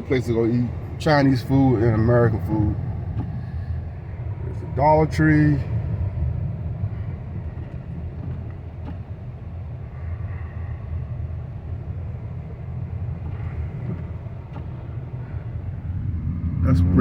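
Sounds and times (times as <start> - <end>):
car driving on snow: 0.0 - 17.0.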